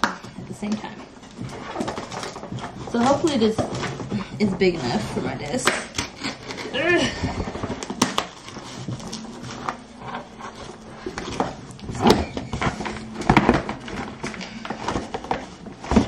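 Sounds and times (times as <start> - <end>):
packaging rustling and tearing: 0.0 - 16.0.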